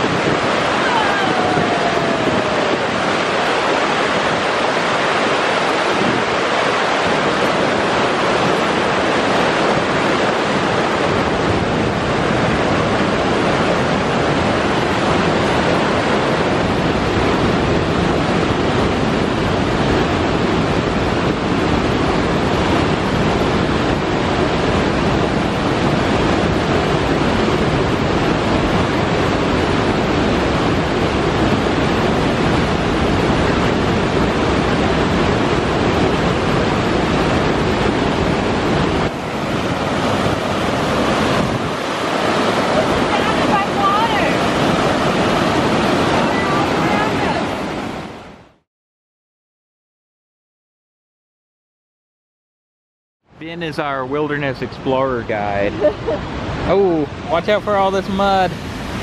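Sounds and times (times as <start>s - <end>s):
white-water rapids roaring: 0.0s - 48.6s, 53.4s - 59.0s.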